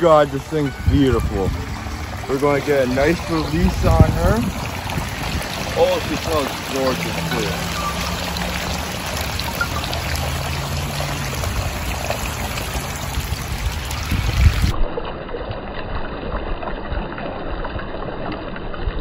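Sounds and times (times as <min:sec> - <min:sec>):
water lapping at edge: 0:00.0 - 0:18.9.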